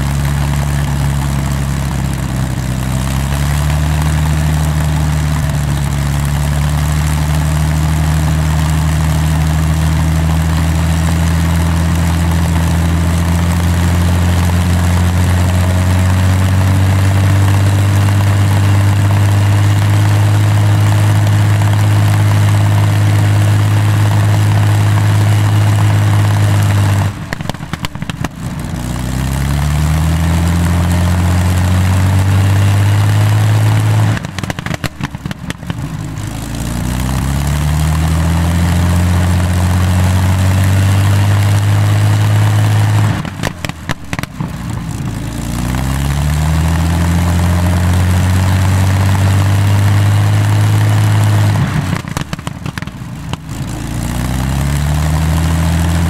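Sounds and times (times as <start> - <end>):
aero engine running: 0.0 - 56.0
engine ragged stutter: 0.0 - 56.0.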